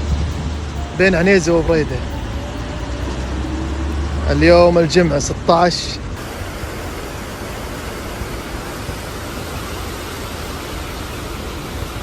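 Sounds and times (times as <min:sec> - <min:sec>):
water rushing hiss: 0:00.0 - 0:12.0.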